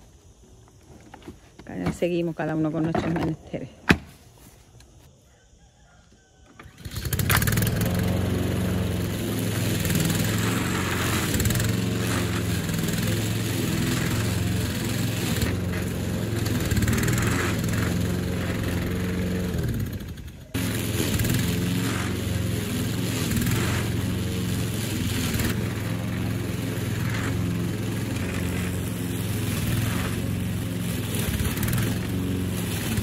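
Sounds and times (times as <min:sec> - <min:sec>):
lawn mower engine running: 0:06.4 - 0:33.0.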